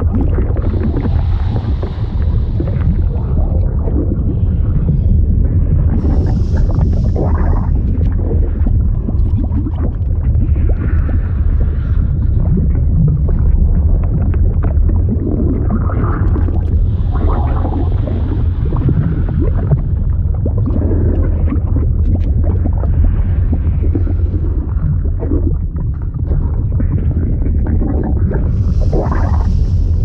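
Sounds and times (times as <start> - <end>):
bubbling and gurgling pops: 0.0 - 30.0
deep rumble: 0.0 - 30.0.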